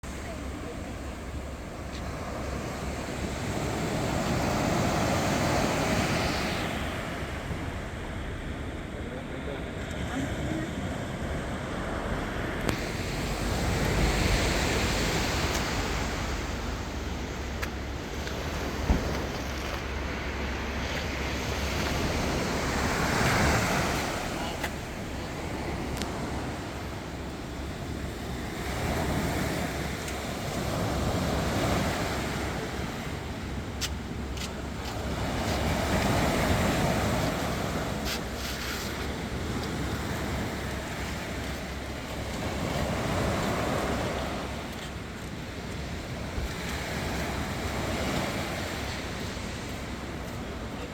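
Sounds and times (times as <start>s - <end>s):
sea waves breaking: 0.0s - 50.9s.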